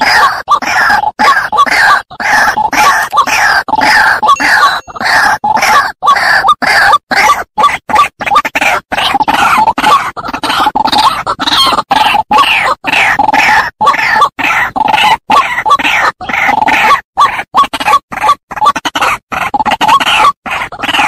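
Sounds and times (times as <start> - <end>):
waterhen calls: 0.0 - 21.0.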